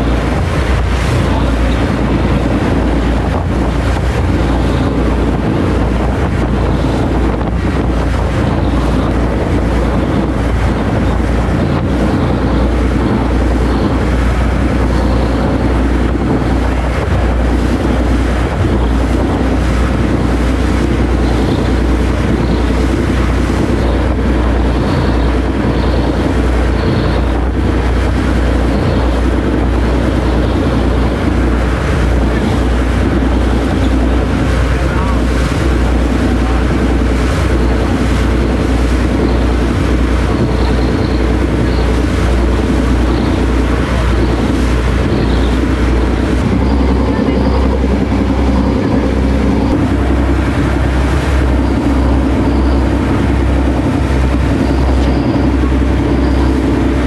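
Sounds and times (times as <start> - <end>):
deep ferry engine hum: 0.0 - 57.0
water rushing past hull: 0.0 - 57.0
wind buffeting microphone: 0.0 - 57.0.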